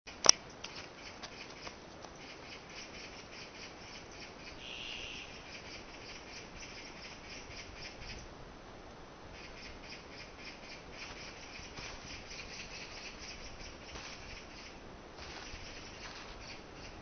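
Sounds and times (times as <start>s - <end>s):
insects chirping: 0.5s - 8.3s, 9.3s - 17.0s.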